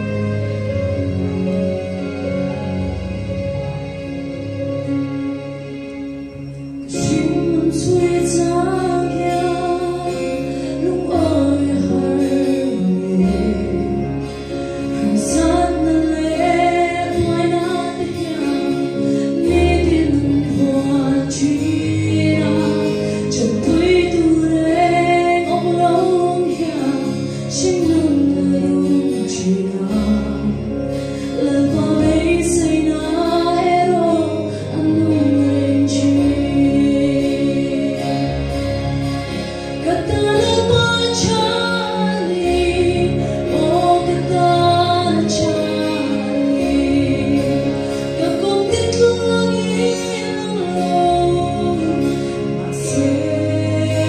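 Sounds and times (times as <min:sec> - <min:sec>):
instrumental accompaniment: 0:00.0 - 0:54.0
woman singing into a microphone: 0:06.9 - 0:38.8, 0:39.5 - 0:54.0.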